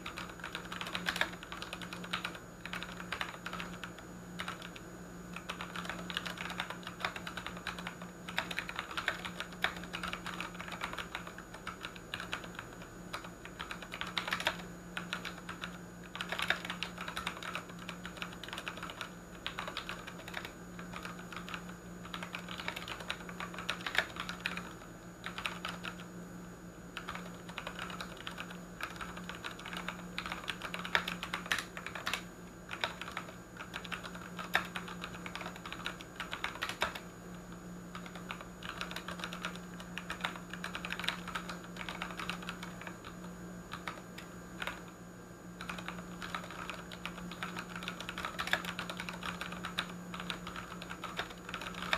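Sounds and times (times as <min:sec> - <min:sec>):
mechanical keyboard typing: 0:00.0 - 0:04.8, 0:05.4 - 0:26.1, 0:27.0 - 0:37.1, 0:37.9 - 0:44.9, 0:45.6 - 0:51.9
steady low hum: 0:00.0 - 0:51.9.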